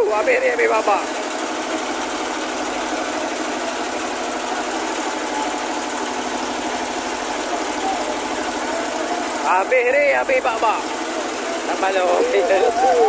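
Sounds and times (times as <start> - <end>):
boat engine clattering: 0.0 - 13.0.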